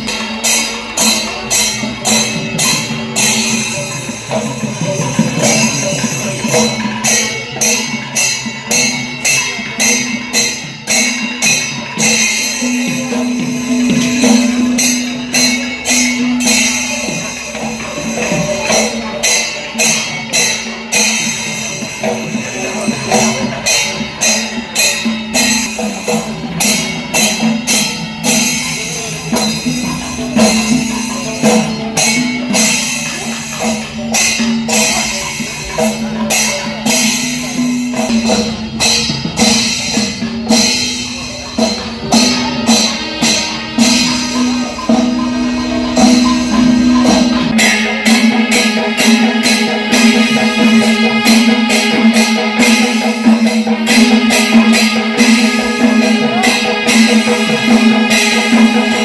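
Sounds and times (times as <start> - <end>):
drumming: 0.0 - 59.0
small cymbals clashing: 0.0 - 59.0.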